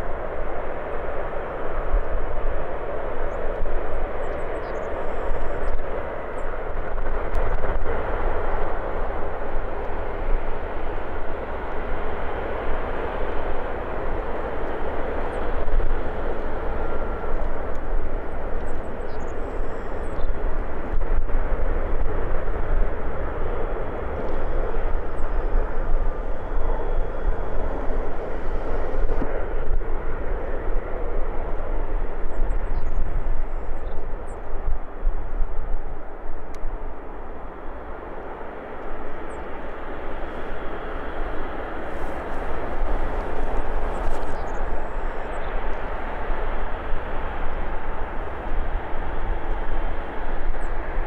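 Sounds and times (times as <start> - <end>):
jet engines idling: 6.0 - 51.0.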